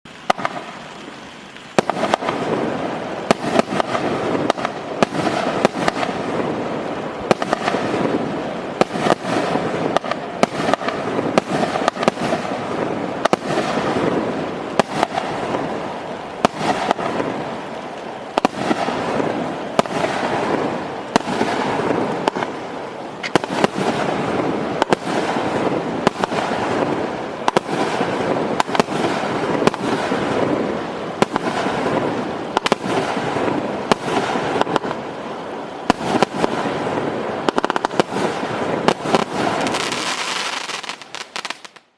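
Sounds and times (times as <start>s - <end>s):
firework crackle: 0.1s - 41.9s
firework shots: 0.2s - 41.9s.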